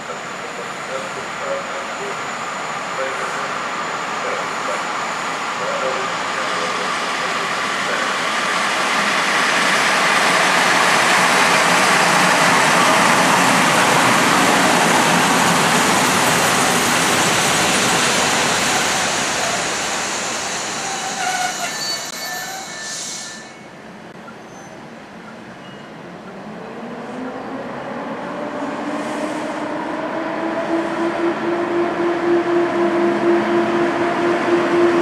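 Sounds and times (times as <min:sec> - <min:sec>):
train rushing on rails: 0:00.0 - 0:35.0.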